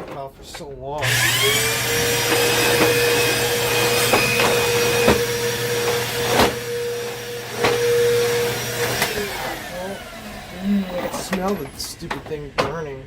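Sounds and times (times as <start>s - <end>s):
vacuum cleaner motor hum and whine: 1.0s - 12.3s.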